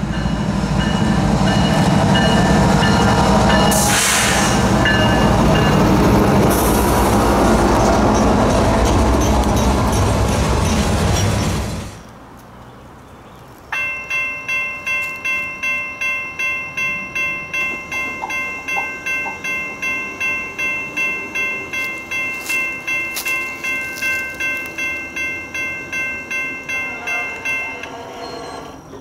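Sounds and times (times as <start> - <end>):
railroad crossing bell ringing: 0.0 - 11.6, 13.7 - 29.0.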